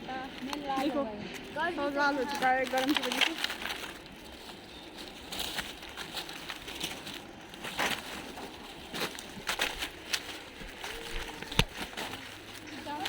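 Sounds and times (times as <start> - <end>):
footsteps crunching dry leaves: 0.0 - 13.0.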